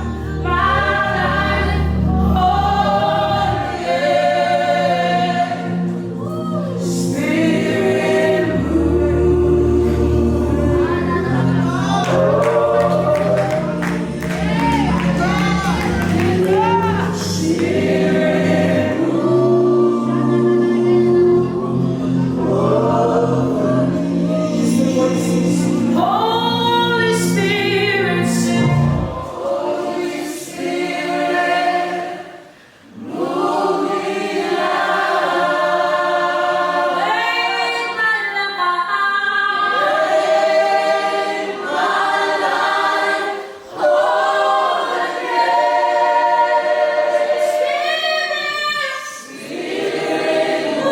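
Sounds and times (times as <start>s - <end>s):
choir singing a gospel song: 0.0s - 50.9s.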